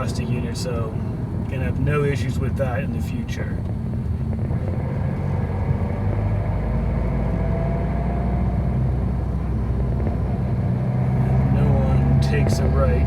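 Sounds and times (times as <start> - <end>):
car engine drone in cabin: 0.0 - 13.0.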